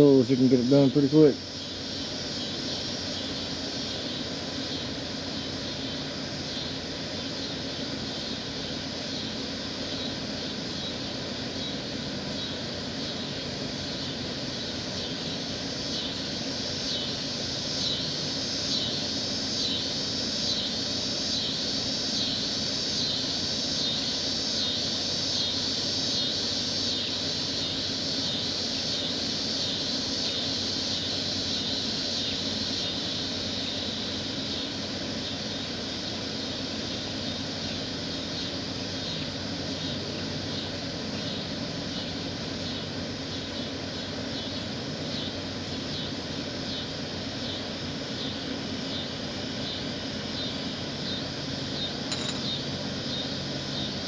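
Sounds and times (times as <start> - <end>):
insect chorus pulsing: 0.0 - 54.0.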